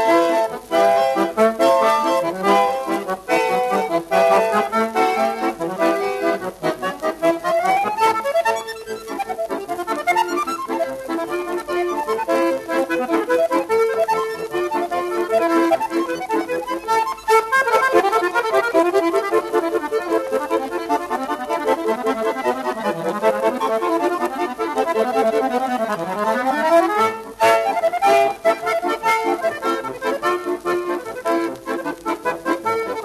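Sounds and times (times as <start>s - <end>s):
instrumental background music: 0.0s - 33.0s.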